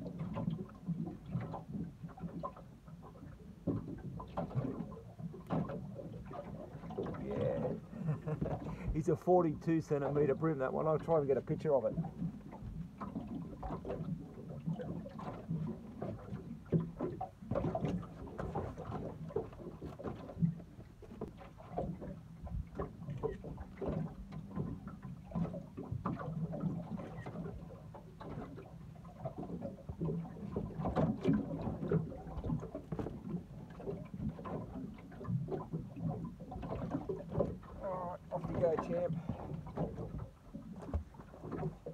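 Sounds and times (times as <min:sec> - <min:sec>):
knocks and bumps against hull: 0:00.0 - 0:41.9.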